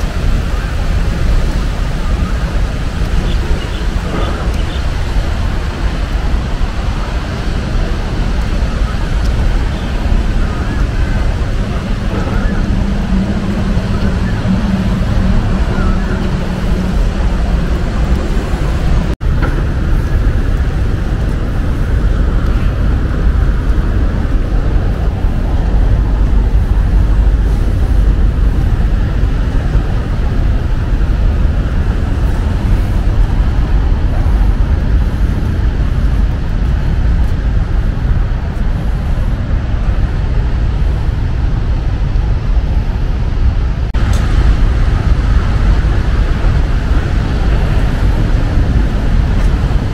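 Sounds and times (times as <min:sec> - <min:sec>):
city street traffic: 0:00.0 - 0:49.9.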